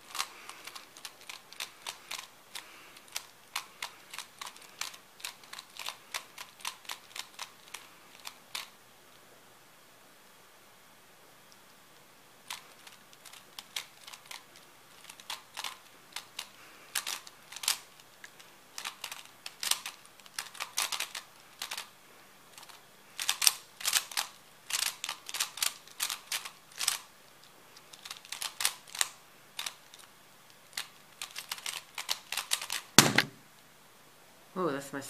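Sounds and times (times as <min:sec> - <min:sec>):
puzzle cube plastic clicks: 0:00.1 - 0:08.7, 0:12.4 - 0:21.9, 0:22.5 - 0:33.4.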